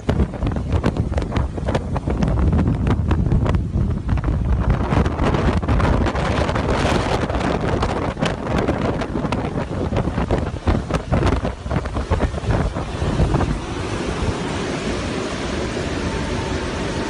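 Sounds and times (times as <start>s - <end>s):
steady rushing wind: 0.0s - 17.0s
wind buffeting microphone: 0.0s - 17.0s.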